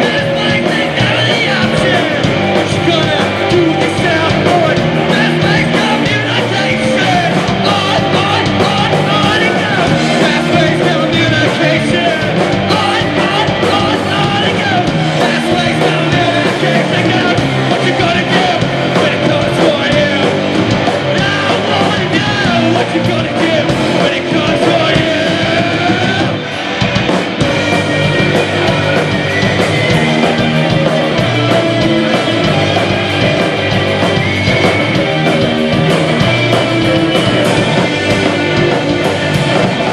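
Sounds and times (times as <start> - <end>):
drum kit: 0.0 - 39.9
electric bass: 0.0 - 39.9
electric guitars: 0.0 - 39.9
man singing: 0.0 - 39.9.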